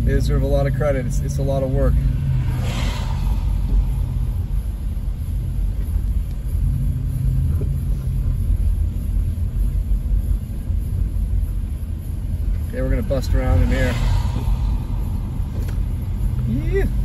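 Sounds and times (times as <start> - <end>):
car driving on wet road: 0.0 - 17.0.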